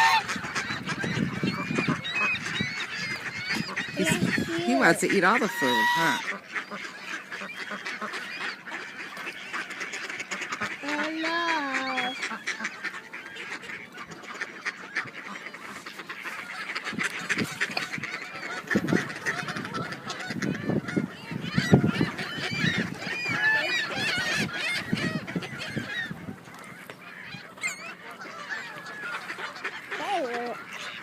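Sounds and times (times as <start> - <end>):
geese honking: 0.0 - 31.0.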